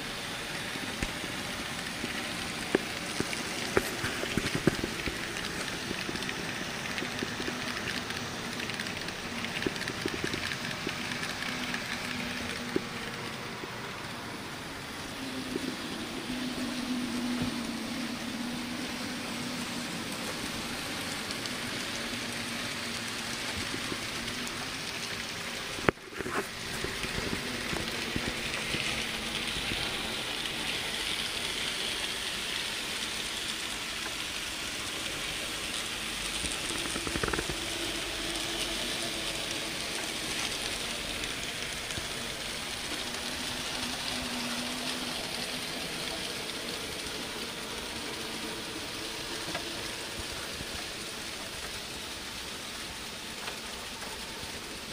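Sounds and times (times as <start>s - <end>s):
low steady hum: 0.0s - 54.9s
model train motors and wheels hiss: 0.0s - 54.9s.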